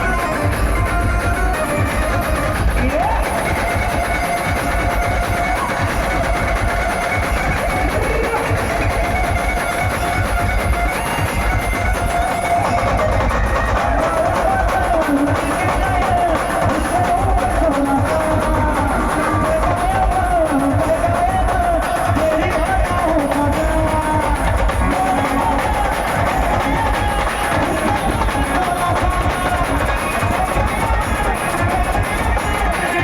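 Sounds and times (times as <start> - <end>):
steady drum beat: 0.0 - 33.0.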